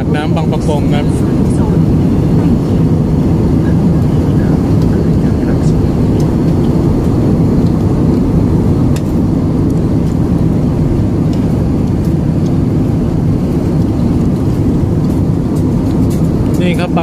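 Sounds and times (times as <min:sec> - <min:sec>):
jet airliner cabin rumble: 0:00.0 - 0:17.0.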